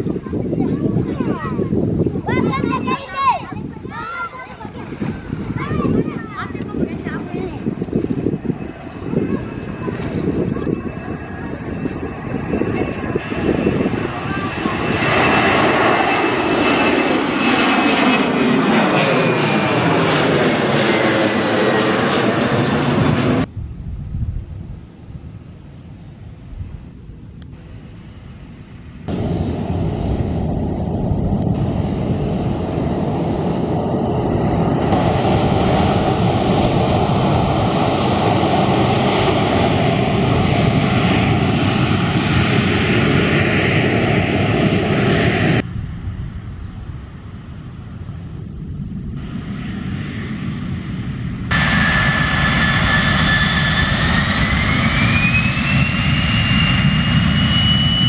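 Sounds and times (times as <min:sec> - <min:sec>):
jet engines roaring: 0:00.0 - 0:23.5, 0:27.1 - 0:58.0
jet engine whine: 0:00.0 - 0:58.0.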